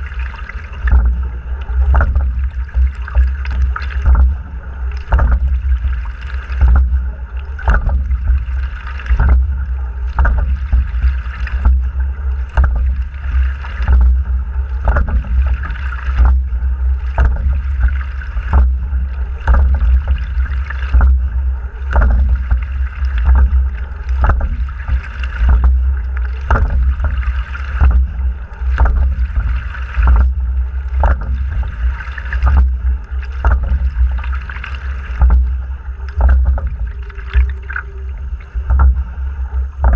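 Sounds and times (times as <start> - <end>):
oars knocking in oarlocks: 0.0 - 39.9
steady low rumble: 0.0 - 39.9
water rushing along hull: 0.0 - 39.9.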